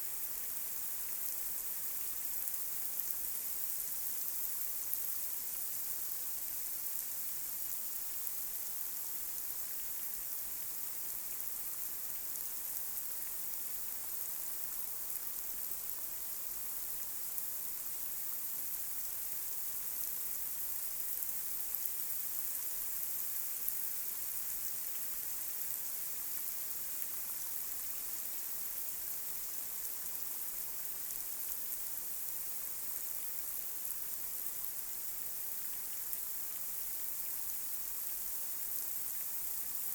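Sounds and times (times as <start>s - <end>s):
light rain hissing on street: 0.0s - 39.9s.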